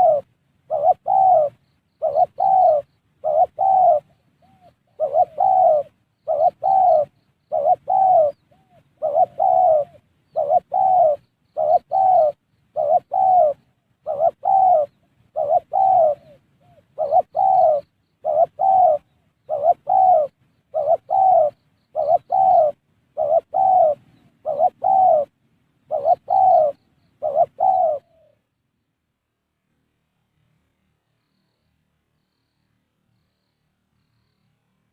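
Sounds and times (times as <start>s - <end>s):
dove cooing: 0.0s - 28.4s.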